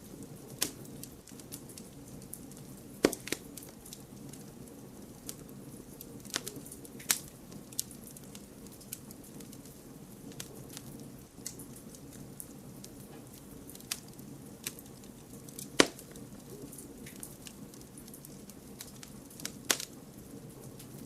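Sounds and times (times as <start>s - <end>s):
campfire hissing and crackling: 0.0s - 21.0s
sharp fire pops: 0.1s - 21.0s.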